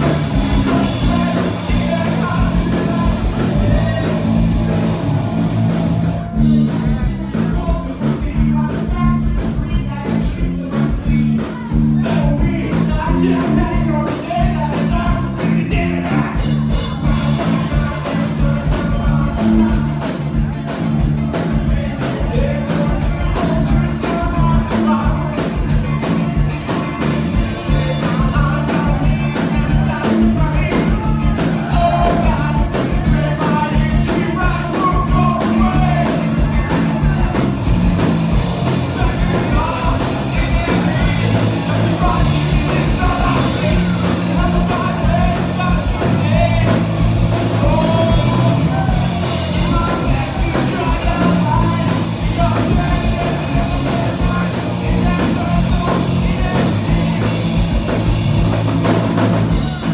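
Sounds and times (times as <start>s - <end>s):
person singing: 0.0s - 58.0s, 59.3s - 59.9s
bass: 0.0s - 59.9s
electric guitars: 0.0s - 59.9s
steady drum beat: 0.0s - 59.9s.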